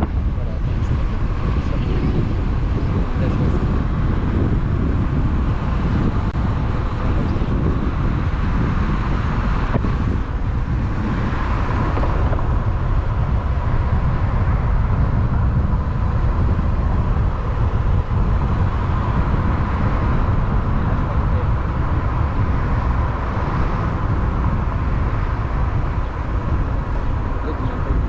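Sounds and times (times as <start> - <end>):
vehicle rumble in motion: 0.0 - 28.0.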